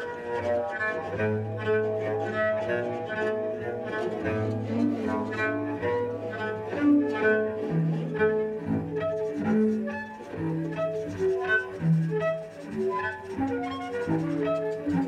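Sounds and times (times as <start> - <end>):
cello bowing low note: 0.0 - 15.0.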